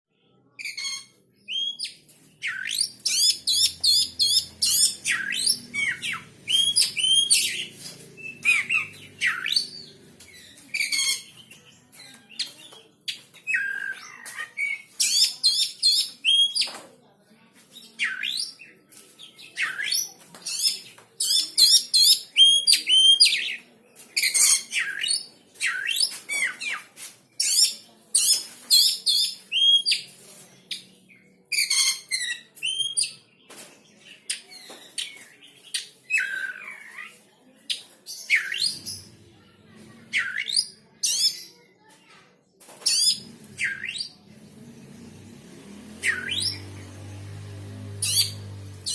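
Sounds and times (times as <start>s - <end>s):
songbird chirping and trilling: 0.1s - 48.9s.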